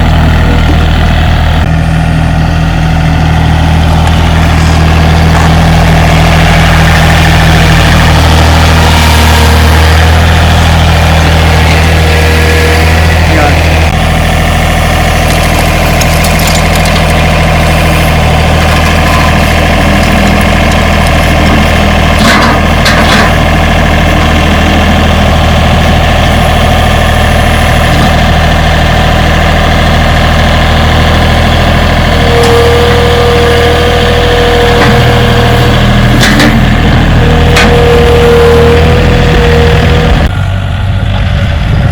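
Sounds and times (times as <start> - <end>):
steady whine: 0.0 - 40.4
tractor diesel engine running: 0.0 - 41.9.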